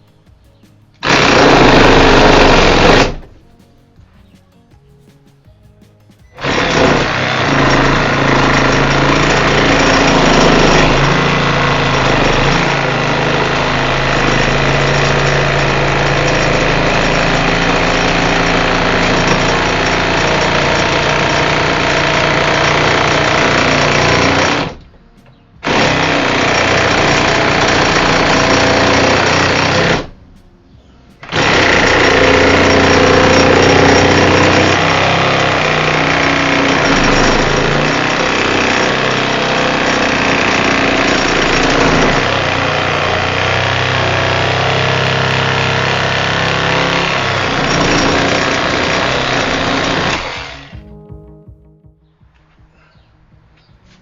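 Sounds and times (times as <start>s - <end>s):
reciprocating saw cutting wood: 1.0s - 3.4s, 6.4s - 24.8s, 25.6s - 30.2s, 31.2s - 50.8s.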